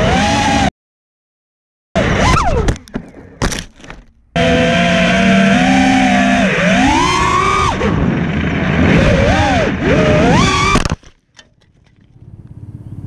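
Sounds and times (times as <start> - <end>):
drone motors and propellers whining: 0.0 - 0.7, 2.0 - 13.0
low buzz: 2.0 - 13.0.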